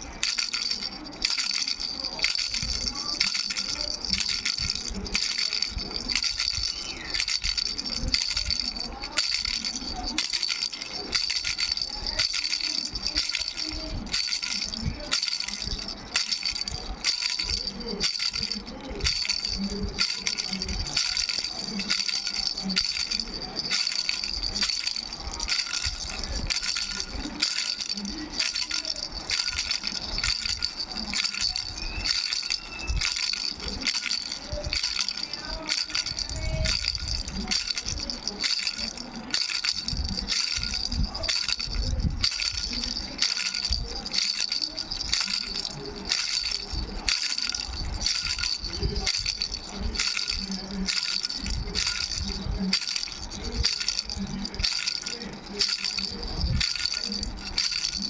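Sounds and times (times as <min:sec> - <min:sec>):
baby rattle shaking: 0:00.0 - 0:58.0
high bell ring: 0:00.2 - 0:58.0.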